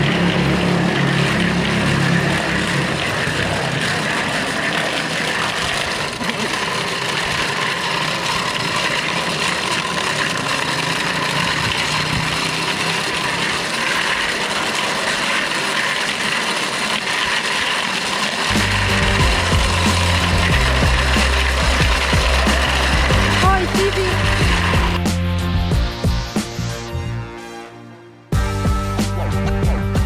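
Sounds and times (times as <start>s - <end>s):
bicycle tyres and air rushing: 0.0s - 25.0s.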